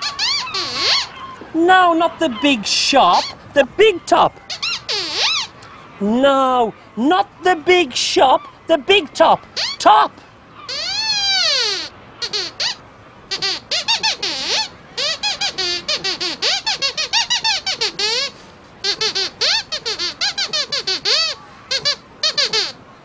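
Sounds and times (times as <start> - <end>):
puppet squeaky voice: 0.0 - 22.8.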